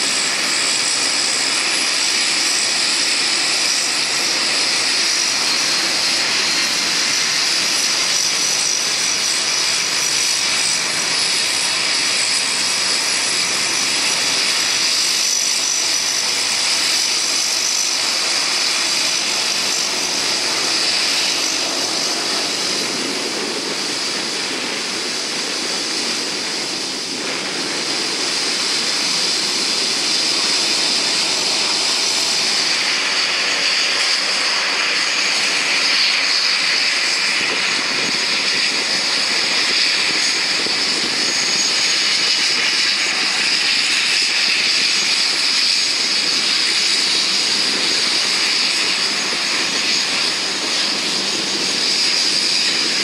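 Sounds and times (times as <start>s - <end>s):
turboprop engines running: 0.0s - 53.0s.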